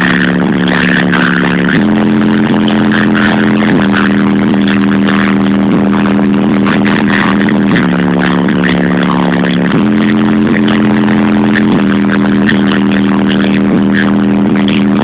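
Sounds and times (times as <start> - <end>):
loud electronic music from car stereo: 0.0 - 15.0.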